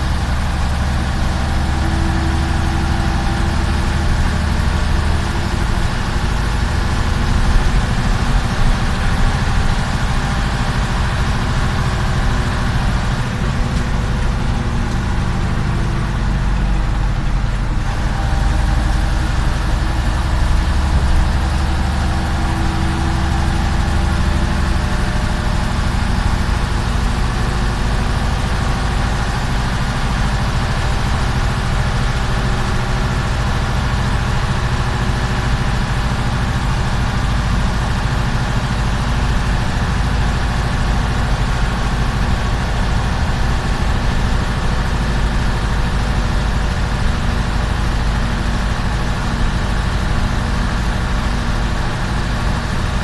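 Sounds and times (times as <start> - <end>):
bus diesel engine drone: 0.0 - 53.0.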